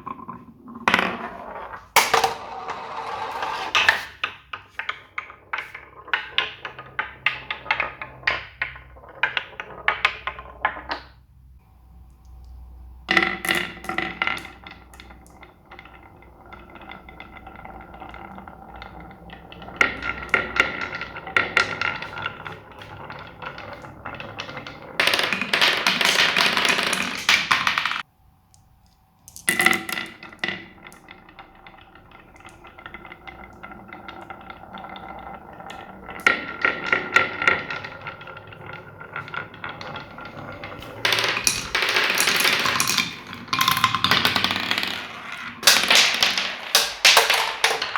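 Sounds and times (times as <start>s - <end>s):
marbles clattering down marble run: 0.0s - 11.2s, 13.1s - 28.1s, 29.3s - 47.9s.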